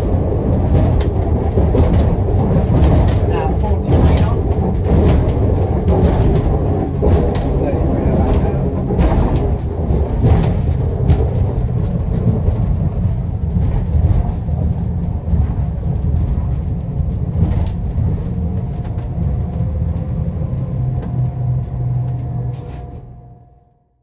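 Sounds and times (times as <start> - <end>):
outboard engines rumbling: 0.0 - 23.6.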